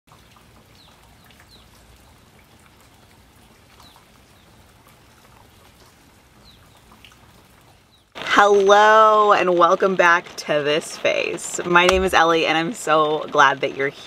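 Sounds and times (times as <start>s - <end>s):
faint rainfall: 0.1s - 14.0s
raindrop ticks: 0.1s - 14.0s.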